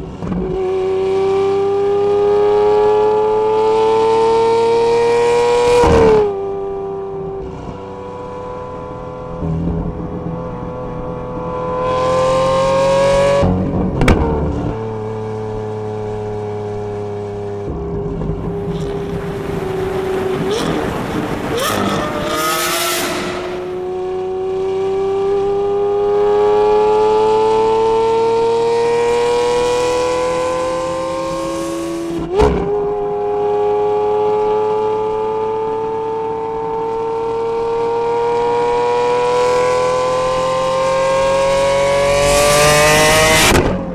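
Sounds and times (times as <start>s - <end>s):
car engine accelerating hard: 7.4s - 43.9s.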